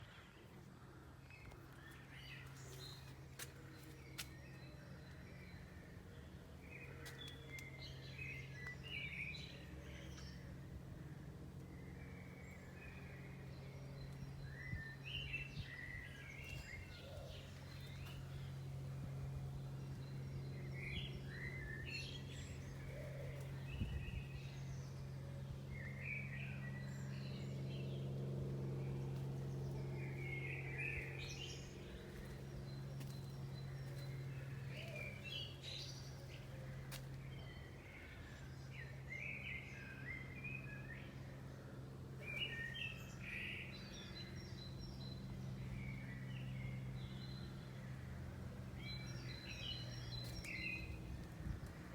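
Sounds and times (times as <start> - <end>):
songbirds chirping: 0.0 - 51.9
steady low hum: 0.0 - 51.9.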